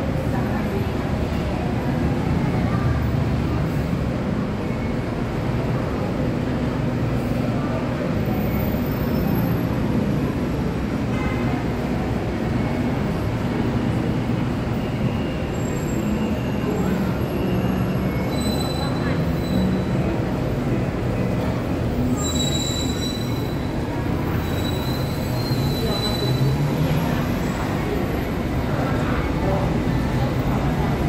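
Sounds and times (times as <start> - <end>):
elevated train running: 0.0 - 31.0
low rumble of city traffic: 0.0 - 31.0.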